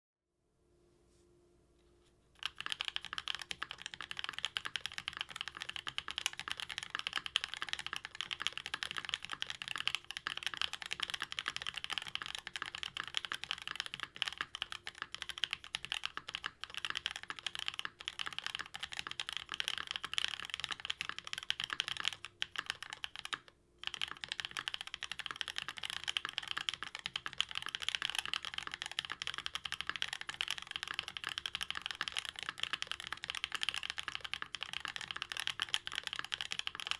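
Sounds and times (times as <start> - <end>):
fast typing on mechanical keyboard: 2.4 - 36.9.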